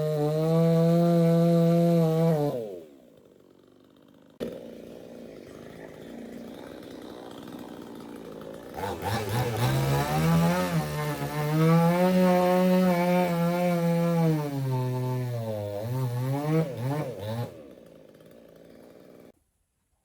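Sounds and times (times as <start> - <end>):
chainsaw cutting wood: 0.0 - 19.4.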